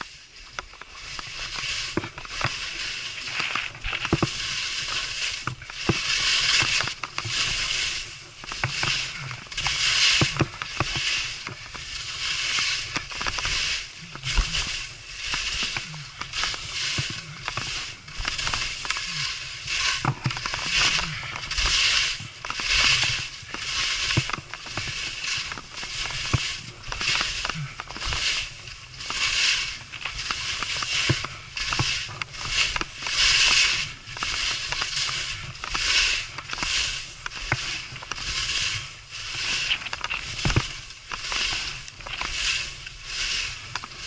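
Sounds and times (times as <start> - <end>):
skis scraping over snow: 0.0 - 44.0.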